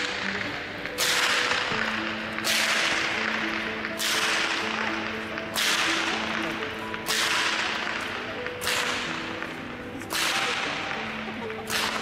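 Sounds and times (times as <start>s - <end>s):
whip lashing with echo: 1.0s - 9.3s, 10.0s - 11.0s, 11.6s - 12.0s.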